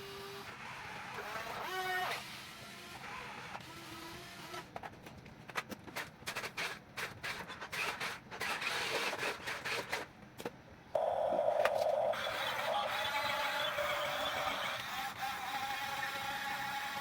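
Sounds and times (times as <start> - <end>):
toy motors and gears whirring: 0.0 - 10.1, 11.0 - 17.0.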